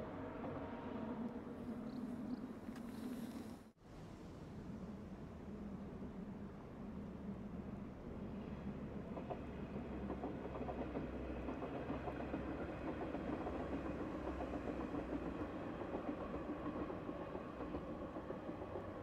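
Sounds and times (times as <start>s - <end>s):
train rumbling on bridge: 0.0s - 19.0s.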